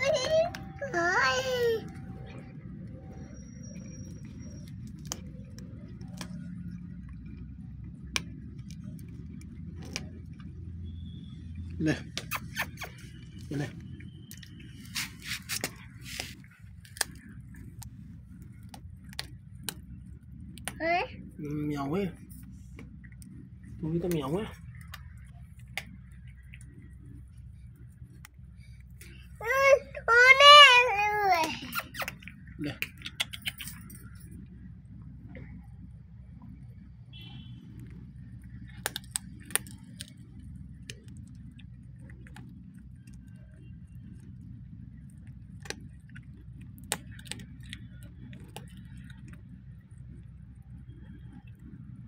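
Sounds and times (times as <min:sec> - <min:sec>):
steady low hum: 0:00.0 - 0:52.0
cat chewing and crunching food: 0:01.8 - 0:29.4, 0:31.8 - 0:52.0.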